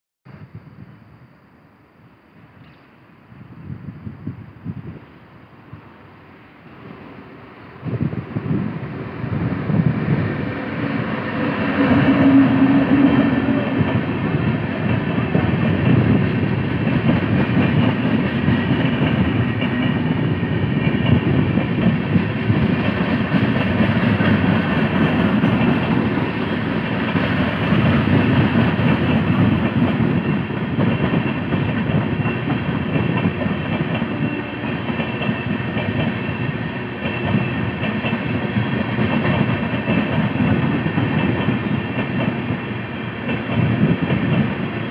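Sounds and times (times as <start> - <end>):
electric locomotive passing: 0.4 - 44.9
train wheels rumbling on rails: 2.4 - 44.9.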